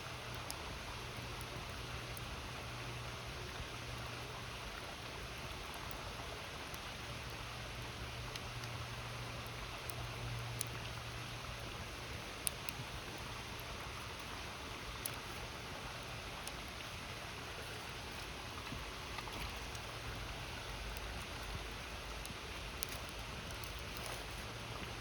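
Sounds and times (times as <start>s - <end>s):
campfire crackling: 0.0s - 25.0s
river flowing: 0.0s - 25.0s.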